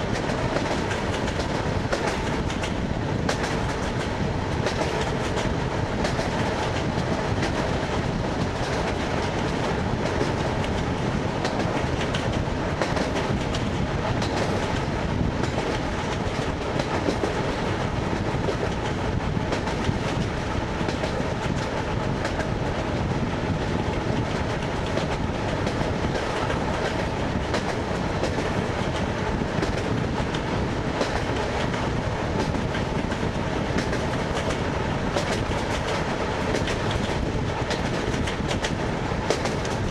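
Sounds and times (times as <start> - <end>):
clickety-clack over rail joints: 0.0 - 39.9
train wheels rumbling: 0.0 - 39.9.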